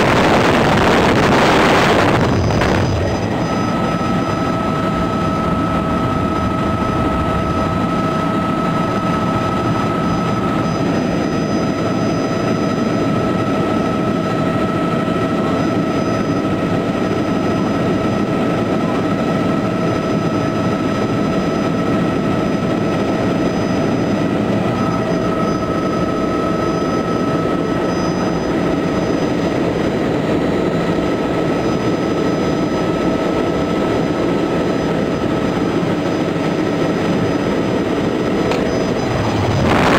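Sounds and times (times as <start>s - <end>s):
helicopter rotor and turbine noise: 0.0s - 39.9s.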